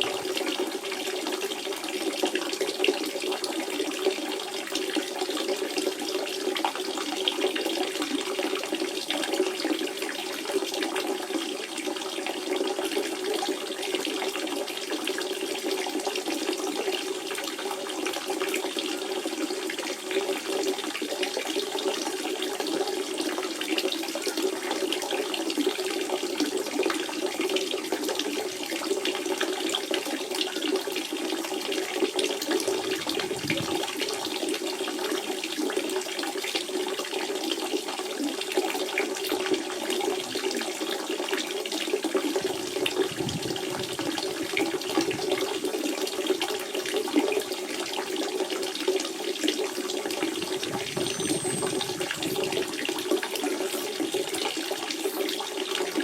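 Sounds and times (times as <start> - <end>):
water running over rocks: 0.0 - 56.0.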